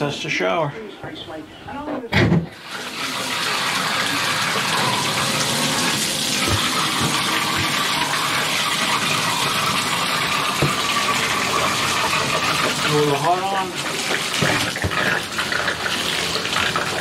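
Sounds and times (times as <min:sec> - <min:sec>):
water running into bathtub: 0:02.5 - 0:17.0.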